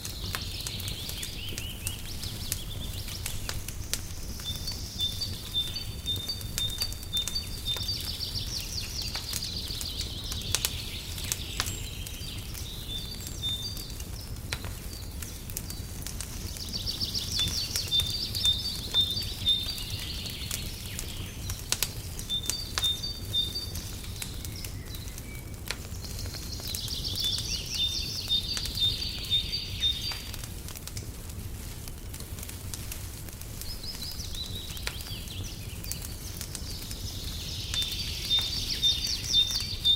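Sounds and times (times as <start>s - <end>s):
songbird singing with trill: 0.0s - 30.4s, 33.6s - 39.9s
wood fire crackling and popping: 0.0s - 39.9s.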